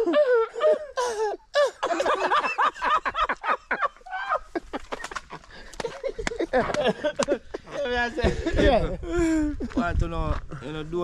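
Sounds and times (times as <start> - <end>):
men laughing and chattering: 0.0 - 11.0.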